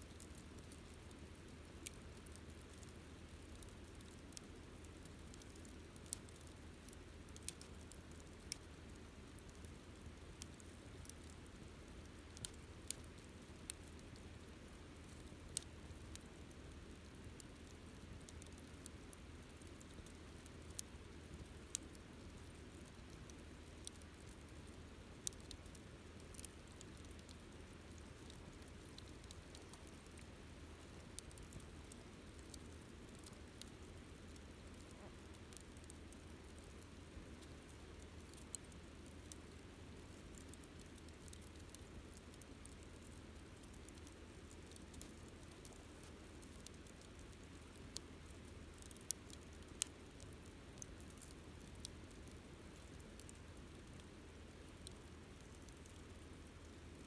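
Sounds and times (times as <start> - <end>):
campfire crackling and popping: 0.1 - 57.0.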